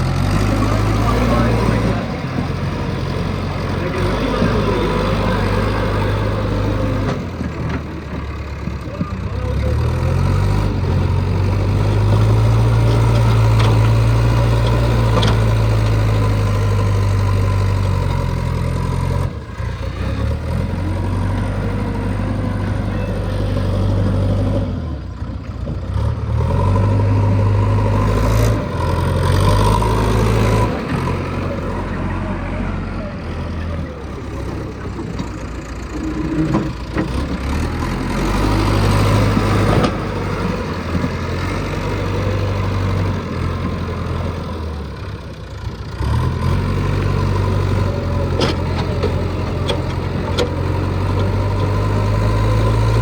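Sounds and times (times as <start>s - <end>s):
heavy diesel engines running: 0.0s - 53.0s.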